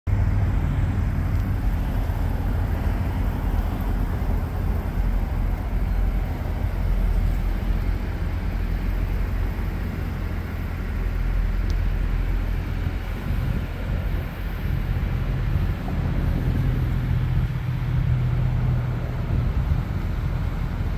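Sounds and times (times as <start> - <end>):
car engine idling: 0.1 - 20.9.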